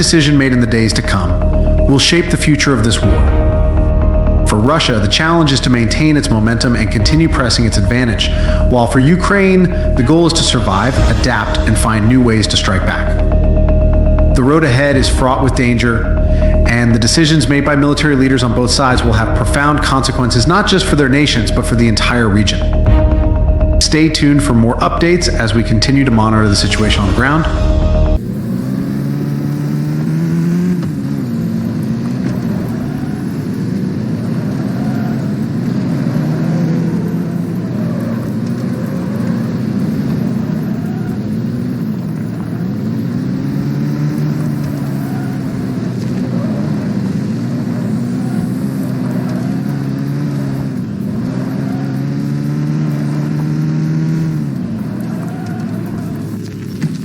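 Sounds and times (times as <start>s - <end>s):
engine running with sweeping pitch: 0.0s - 57.0s.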